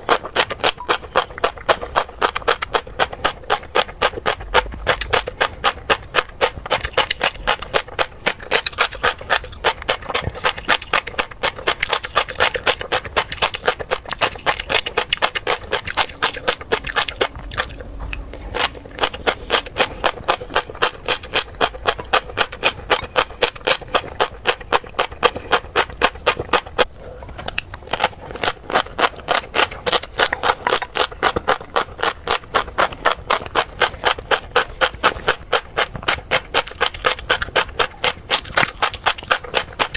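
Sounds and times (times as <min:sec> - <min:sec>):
chewing crunchy fish roe: 0:00.0 - 0:39.9.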